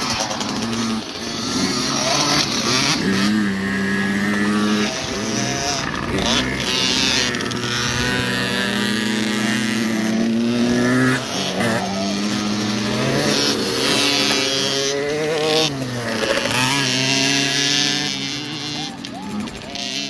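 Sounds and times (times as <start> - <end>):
dirt bike engines racing: 0.0 - 20.0.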